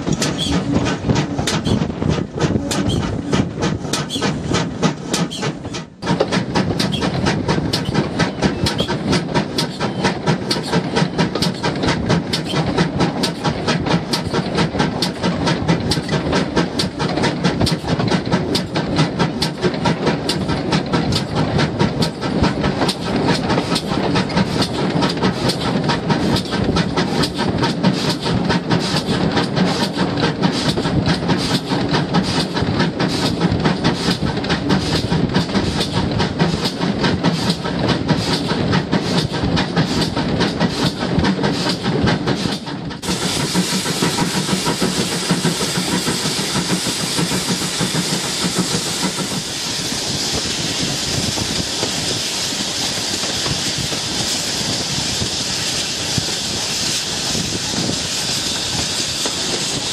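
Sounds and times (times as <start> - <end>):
steam locomotive chuffing: 0.0 - 59.9
train running and rail noise: 0.0 - 59.9.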